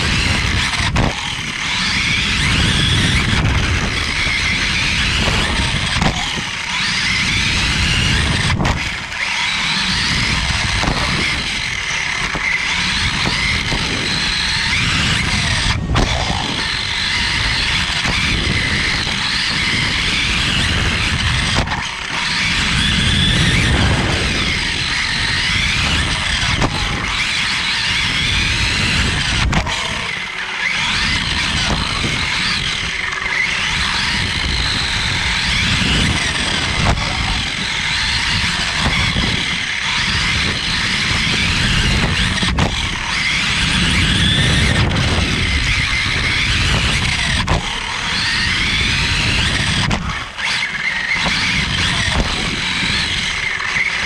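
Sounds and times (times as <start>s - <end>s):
motor and drivetrain whine: 0.0s - 54.0s.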